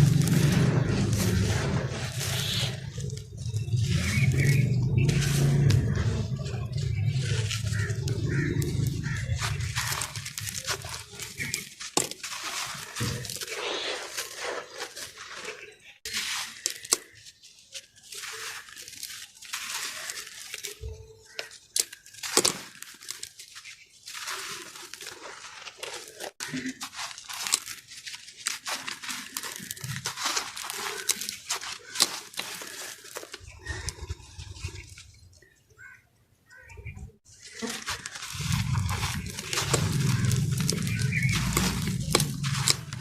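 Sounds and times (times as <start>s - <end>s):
cement block crunching and crackling: 0.0s - 35.6s, 36.9s - 43.0s.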